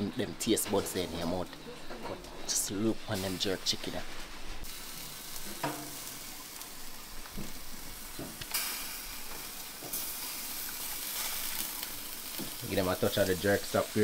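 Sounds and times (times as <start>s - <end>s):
chicken sizzling on a grill: 0.1s - 14.0s.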